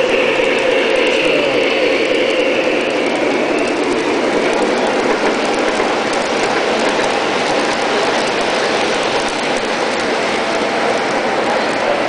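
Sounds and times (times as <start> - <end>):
model train wheels rumbling on rails: 0.0 - 12.0.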